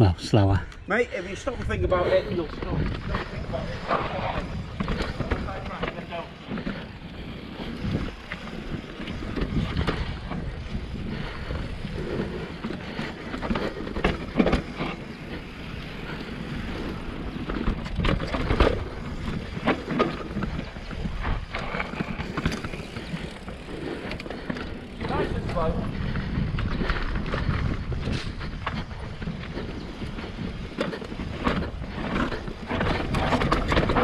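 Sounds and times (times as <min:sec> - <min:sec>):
wind buffeting microphone: 0:00.6 - 0:34.0
tyres running over dirt: 0:01.3 - 0:34.0
bike knocking and rattling: 0:01.4 - 0:34.0.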